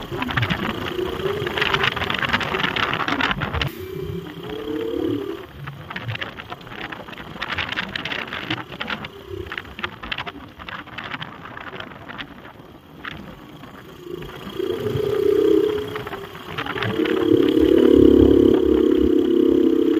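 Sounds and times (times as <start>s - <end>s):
motorcycle engine running low: 0.0s - 19.9s
wind buffeting microphone: 0.0s - 19.9s.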